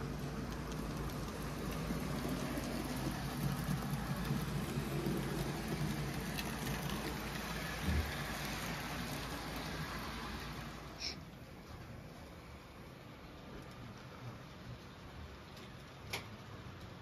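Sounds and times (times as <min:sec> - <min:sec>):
model train wheels on rail: 0:00.0 - 0:17.0.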